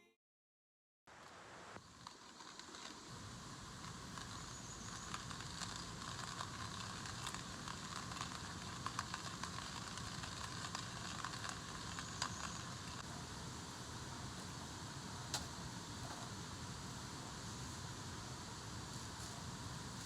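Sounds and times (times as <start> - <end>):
fire crackling and popping: 1.6 - 20.0.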